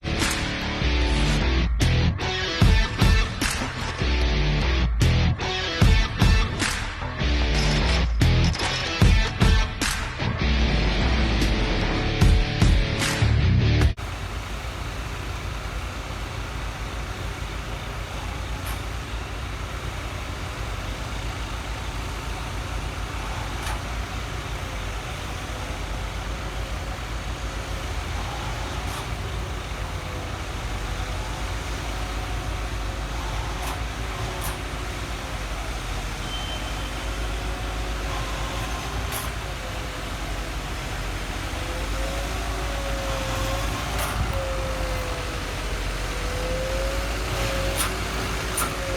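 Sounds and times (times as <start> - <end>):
low engine rumble: 0.0 - 48.9.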